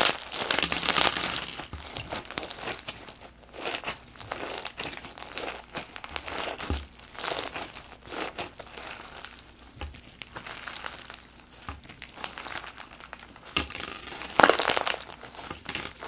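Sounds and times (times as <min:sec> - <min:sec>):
slime beads crackling and crunching: 0:00.0 - 0:16.0.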